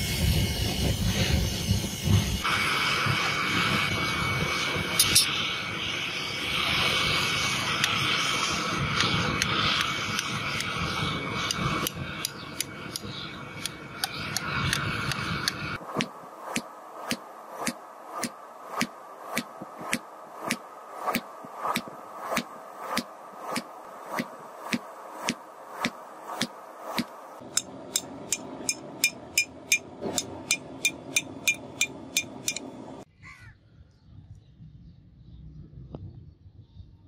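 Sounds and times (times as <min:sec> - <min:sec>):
hammer blows on hot steel: 0:00.0 - 0:33.0.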